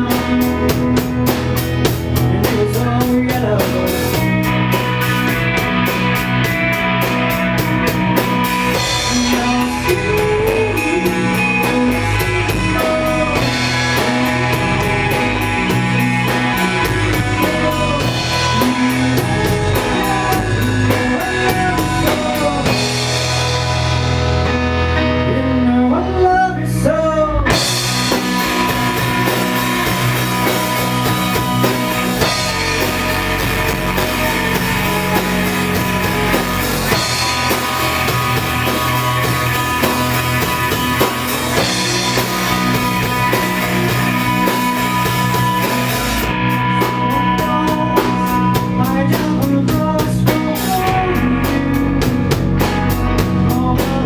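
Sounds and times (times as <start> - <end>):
rock song with singing: 0.0 - 54.0.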